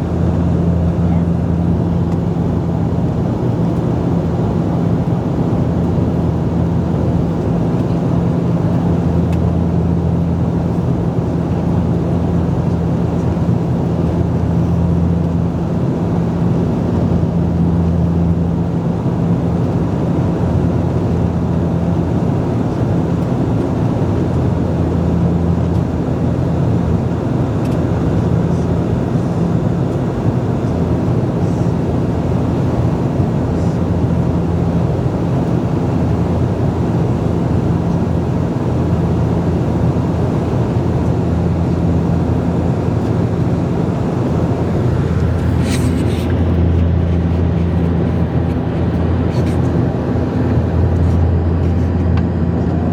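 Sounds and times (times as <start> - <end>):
turboprop engines humming: 0.0 - 52.9.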